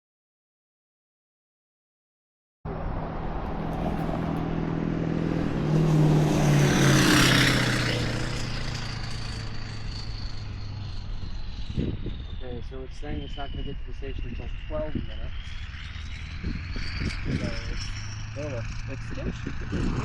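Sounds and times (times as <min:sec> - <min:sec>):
vehicle driving past: 0:02.7 - 0:20.0.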